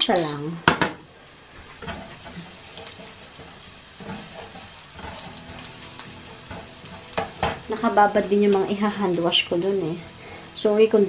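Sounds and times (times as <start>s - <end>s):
faint steady sizzle: 0.0s - 11.0s
spatula scraping frying pan: 1.4s - 10.6s.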